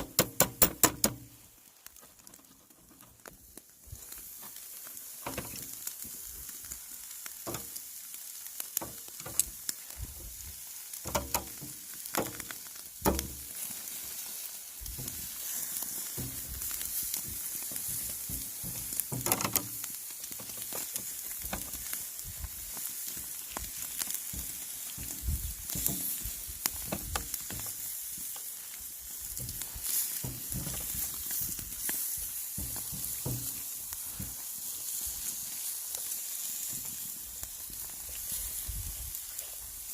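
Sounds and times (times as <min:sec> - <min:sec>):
meat sizzling on a charcoal grill: 0:00.0 - 0:39.9
sharp crackles and clicks: 0:00.0 - 0:39.9.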